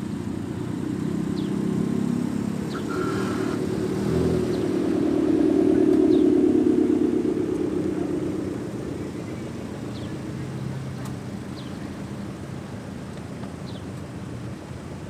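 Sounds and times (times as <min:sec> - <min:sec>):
cars driving slowly past: 0:00.0 - 0:15.0.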